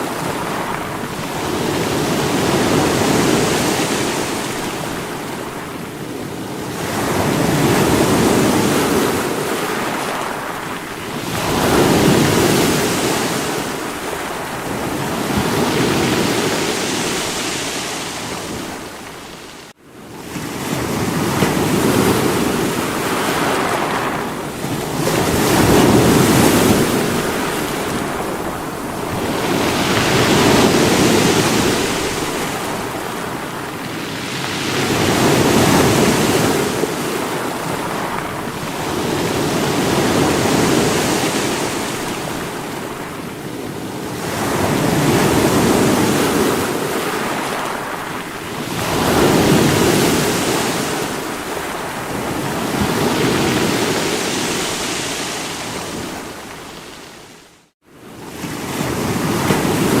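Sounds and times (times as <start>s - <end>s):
sea waves breaking against rocks: 0.0s - 57.0s.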